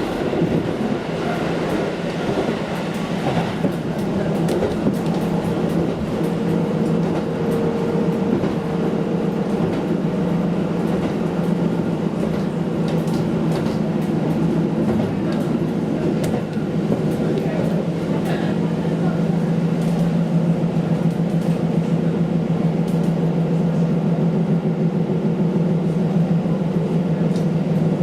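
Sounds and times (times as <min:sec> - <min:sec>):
diesel railcar drone: 0:00.0 - 0:28.0.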